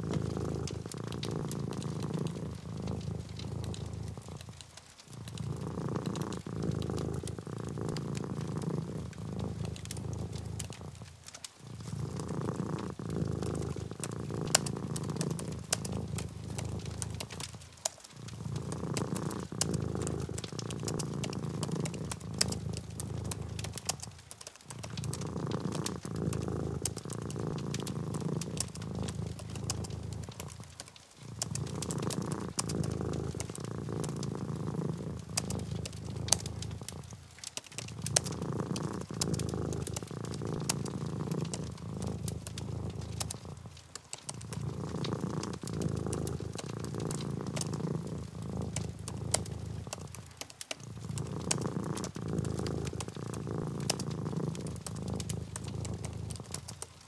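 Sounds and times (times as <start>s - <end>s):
cat purring: 0.0s - 57.0s.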